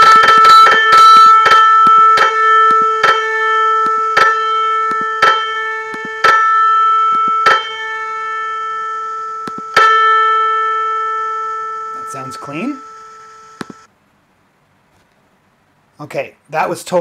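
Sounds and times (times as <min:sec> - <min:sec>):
piano note struck: 0:00.0 - 0:13.9.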